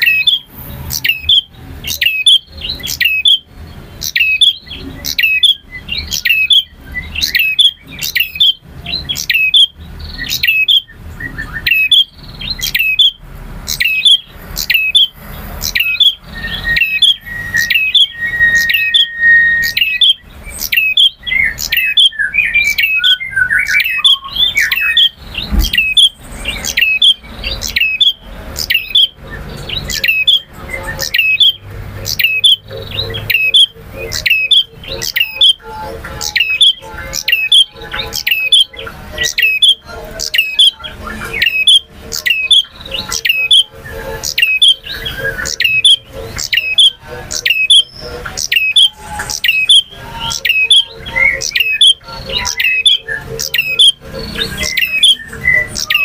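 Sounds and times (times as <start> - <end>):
songbird rapid high chirps: 0.0 - 56.0.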